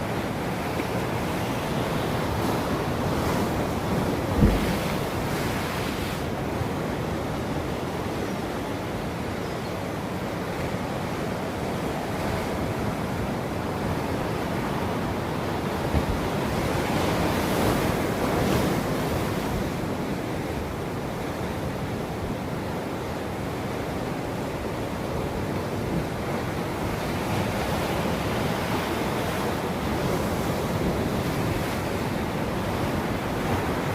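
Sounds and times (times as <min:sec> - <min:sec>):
ocean surf washing ashore: 0:00.0 - 0:33.9.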